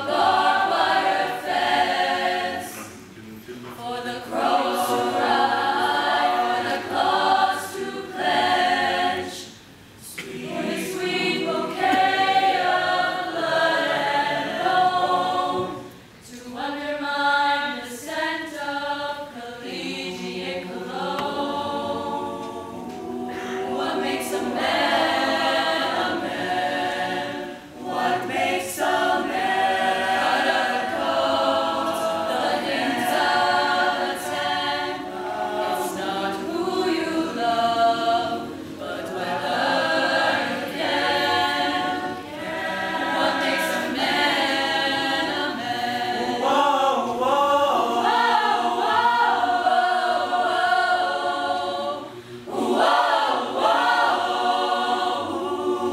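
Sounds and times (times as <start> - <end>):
choir singing in harmony: 0.0 - 55.9.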